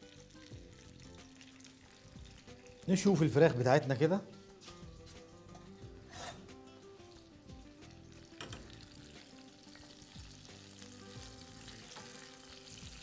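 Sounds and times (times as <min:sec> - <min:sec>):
faint sizzle of frying: 0:00.0 - 0:13.0.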